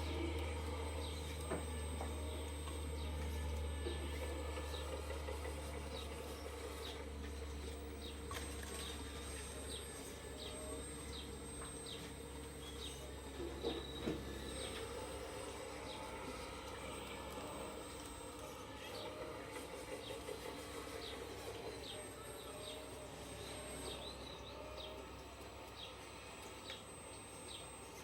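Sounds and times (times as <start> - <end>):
hydraulic pump hum: 0.0 - 28.0.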